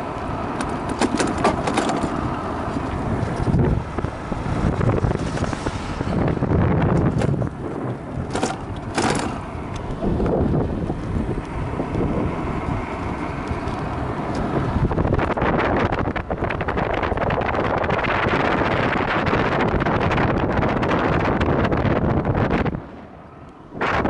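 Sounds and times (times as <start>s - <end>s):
wind buffeting microphone: 0.0s - 23.0s, 23.6s - 24.0s
road noise: 0.0s - 24.0s.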